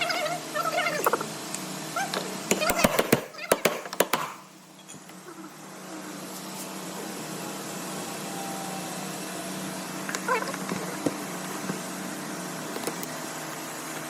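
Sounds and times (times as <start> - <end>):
electric fuel pump humming: 0.0 - 14.0.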